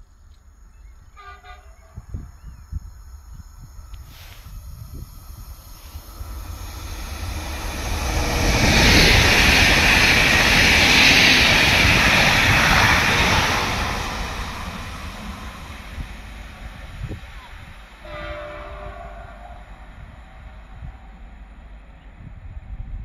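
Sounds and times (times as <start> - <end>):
train passing at speed: 0.6 - 23.0.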